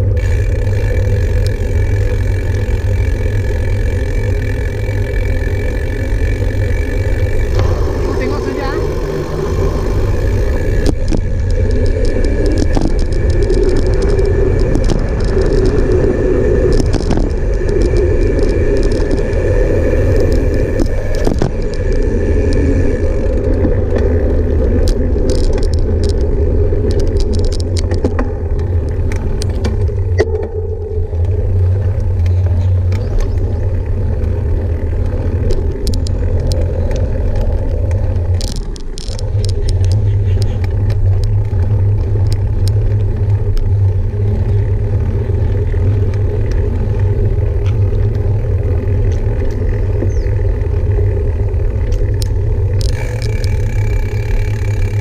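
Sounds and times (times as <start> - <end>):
crackles and scrapes: 0.0 - 55.0
vehicle engine and tyre rumble: 0.0 - 55.0.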